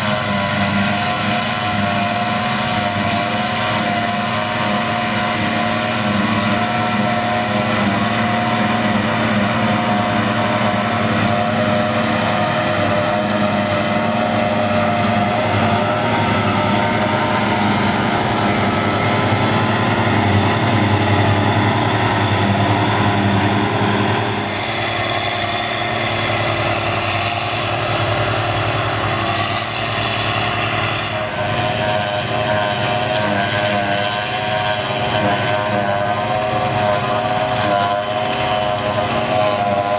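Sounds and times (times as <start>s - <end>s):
farm machinery drone: 0.0s - 39.9s.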